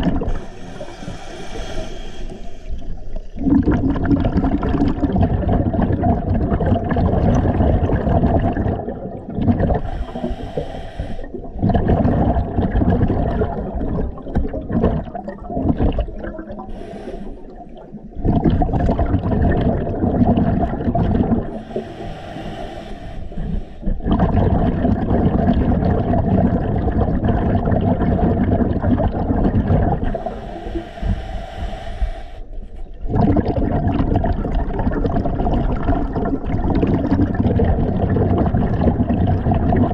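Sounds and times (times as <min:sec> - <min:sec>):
bubbles gurgling underwater: 0:00.0 - 0:10.6, 0:11.2 - 0:16.8, 0:17.4 - 0:21.8, 0:23.4 - 0:30.4, 0:32.7 - 0:39.9.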